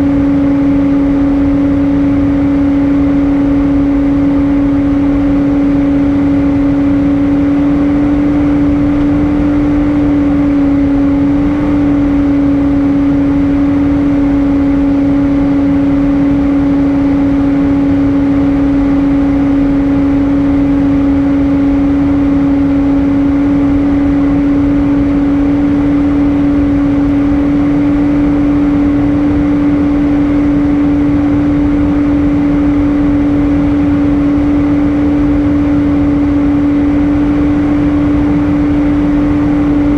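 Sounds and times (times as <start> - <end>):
aircraft engine and airflow drone: 0.0 - 39.9
constant low hum: 0.0 - 39.9.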